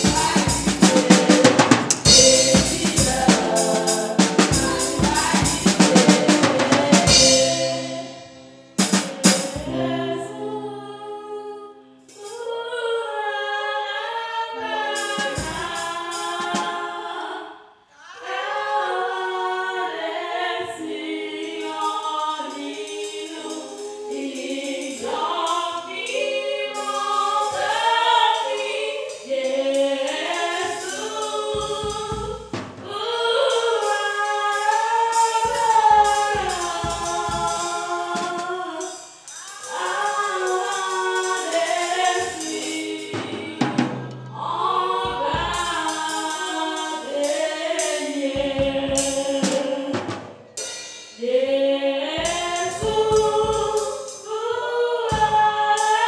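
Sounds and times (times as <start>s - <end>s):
band with drum kit playing: 0.0s - 10.2s, 14.9s - 16.8s, 21.5s - 51.2s, 52.2s - 56.0s
drum strokes: 0.0s - 10.3s, 14.9s - 16.8s, 20.8s - 51.1s, 52.2s - 56.0s
choir singing: 0.0s - 56.0s.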